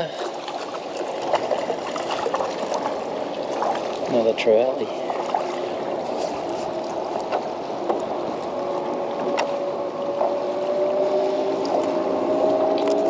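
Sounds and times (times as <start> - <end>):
landing net lifted from water: 0.0 - 13.0
water sloshing around kayak: 0.0 - 13.0.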